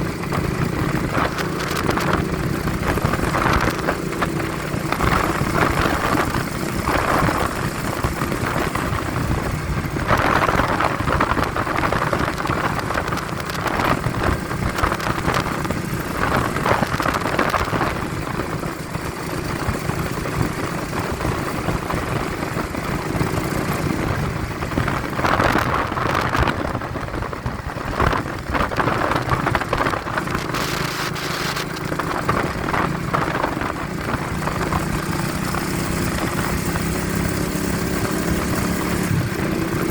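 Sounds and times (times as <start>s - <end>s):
vehicle engine running: 0.0s - 39.9s
wind buffeting microphone: 0.0s - 39.9s.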